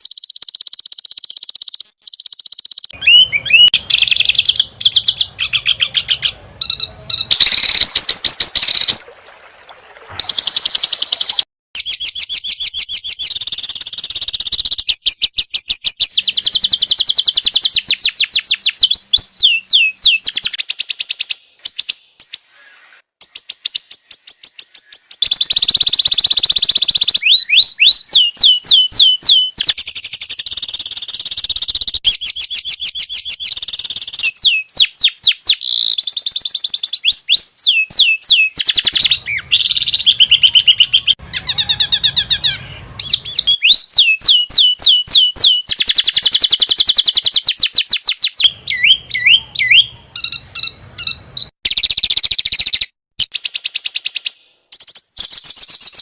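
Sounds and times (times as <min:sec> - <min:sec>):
bird song with trills and whistles: 0:00.0 - 0:09.0, 0:10.2 - 0:56.0.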